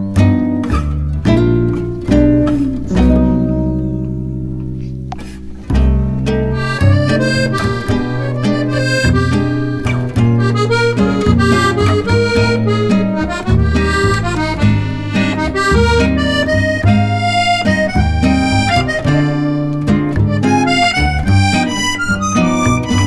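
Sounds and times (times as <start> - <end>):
bass line: 0.0 - 23.0
reedy melody over plucked strings: 0.0 - 23.0
steady beat: 1.3 - 23.0.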